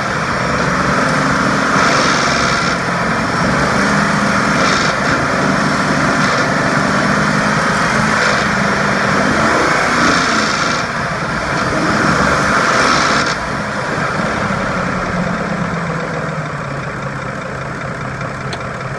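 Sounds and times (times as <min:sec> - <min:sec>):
engine rattle: 0:00.0 - 0:18.9
engine revving: 0:00.0 - 0:18.9.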